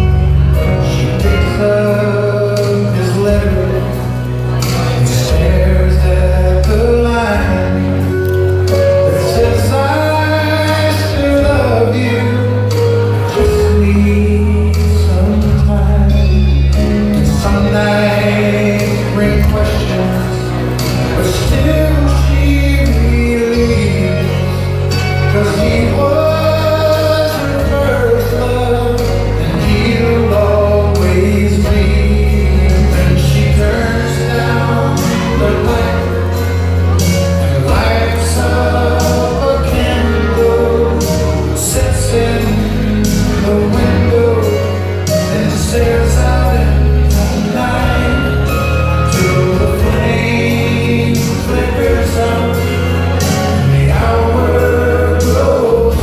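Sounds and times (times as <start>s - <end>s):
person singing: 0.0s - 56.0s
sustained bass chords: 0.0s - 56.0s
waltz music: 0.0s - 56.0s.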